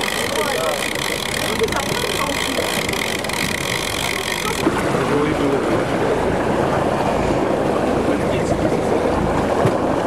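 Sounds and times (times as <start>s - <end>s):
boat engine noise: 0.0s - 10.0s
water rushing along hull: 0.0s - 10.0s.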